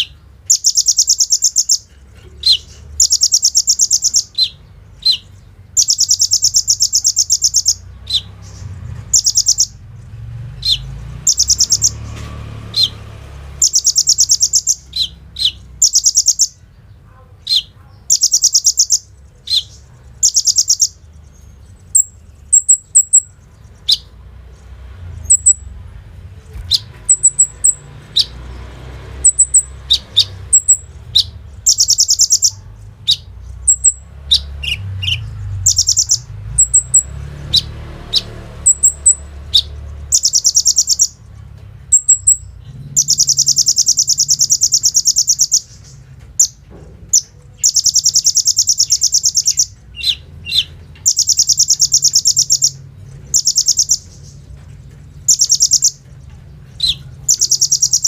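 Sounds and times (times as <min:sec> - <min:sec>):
bird singing high trills: 0:00.0 - 0:09.8, 0:10.6 - 0:16.7, 0:17.5 - 0:24.1, 0:25.1 - 0:25.7, 0:26.7 - 0:28.4, 0:29.1 - 0:41.2, 0:41.9 - 0:46.6, 0:47.2 - 0:54.4, 0:55.2 - 0:56.1, 0:56.7 - 0:58.0
high bird chips: 0:00.0 - 0:09.8, 0:13.5 - 0:24.2, 0:25.1 - 0:58.0.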